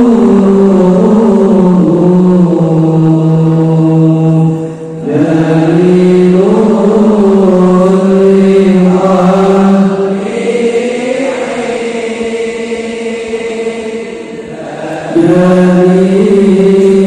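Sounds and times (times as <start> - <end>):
men chanting in long held notes: 0.0 - 17.0.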